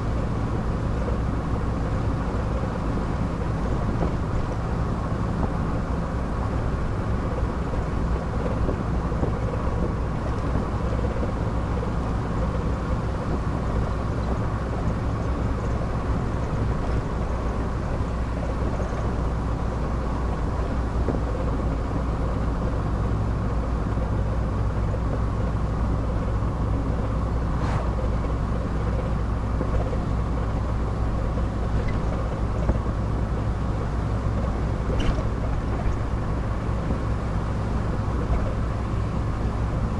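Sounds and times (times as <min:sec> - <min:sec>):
car engine hum: 0:00.0 - 0:39.9
road noise: 0:00.0 - 0:39.9.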